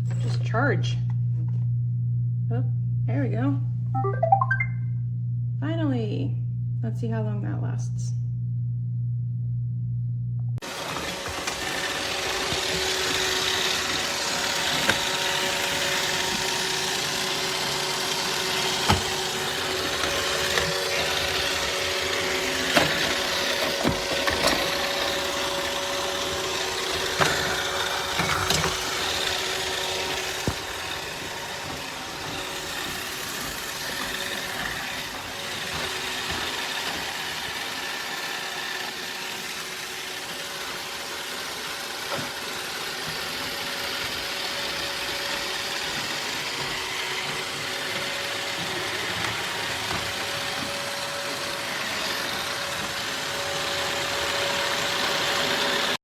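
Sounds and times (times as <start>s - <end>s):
robot vacuum motor whirring: 10.6s - 56.0s.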